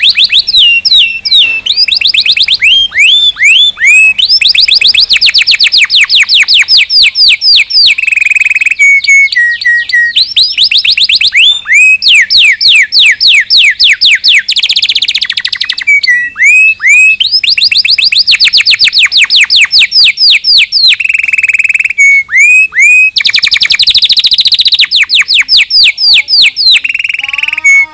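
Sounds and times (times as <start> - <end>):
canary singing: 0.0 - 27.9.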